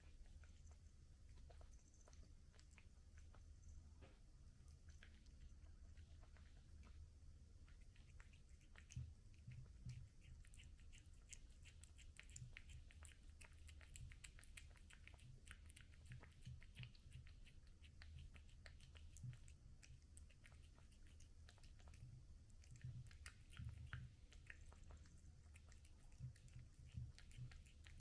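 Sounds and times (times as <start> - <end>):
cat chewing food: 0.0 - 28.0
low steady hum: 0.0 - 28.0.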